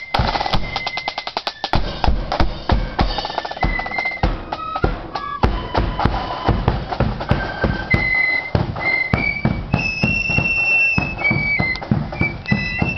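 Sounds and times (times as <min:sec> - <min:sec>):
drum beats: 0:00.0 - 0:12.9
flute band playing: 0:00.0 - 0:12.9.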